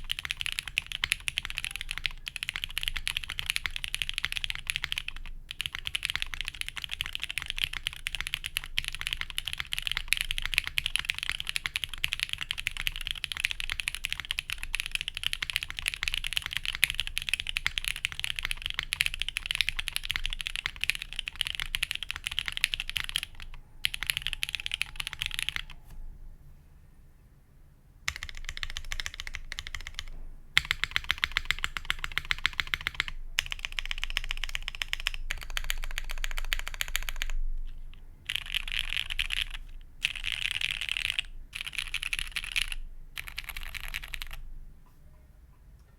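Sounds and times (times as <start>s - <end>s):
fast typing on mechanical keyboard: 0.0s - 25.8s, 28.1s - 44.4s.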